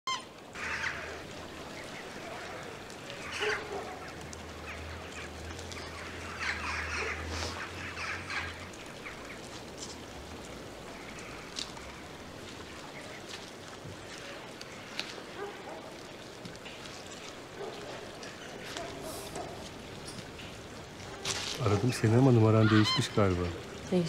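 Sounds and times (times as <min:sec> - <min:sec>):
bird calls: 0:00.1 - 0:10.0, 0:10.8 - 0:24.0.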